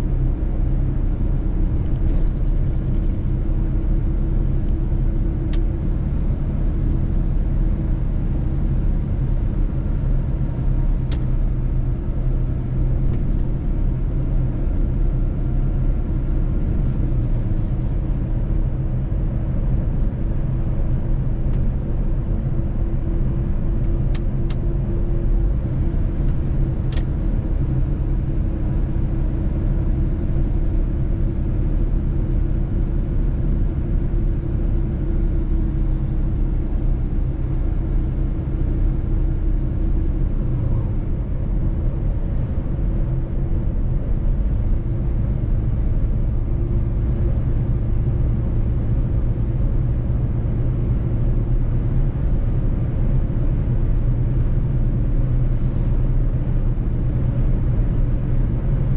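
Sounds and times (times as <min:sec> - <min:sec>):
faint constant hum: 0:00.0 - 0:58.9
truck engine and road rumble: 0:00.0 - 0:58.9.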